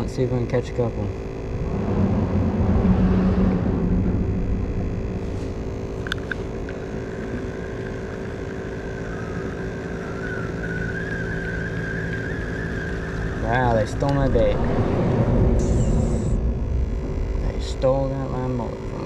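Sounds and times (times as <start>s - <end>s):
faint high whine: 0.0s - 19.0s
low engine rumble: 0.0s - 19.0s.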